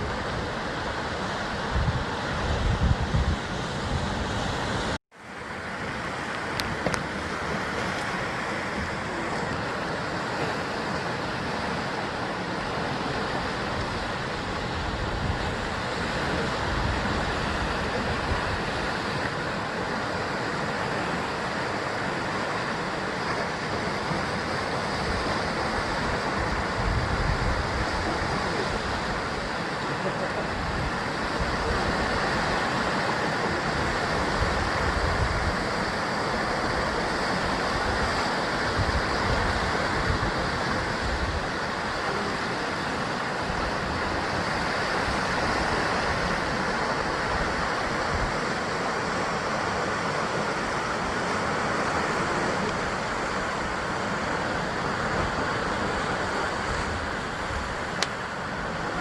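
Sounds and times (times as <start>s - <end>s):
sea waves breaking on rocks: 0.0s - 59.0s.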